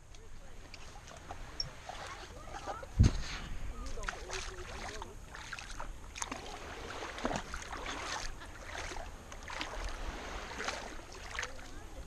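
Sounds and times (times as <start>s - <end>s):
sea water sloshing and splashing: 0.6s - 12.0s.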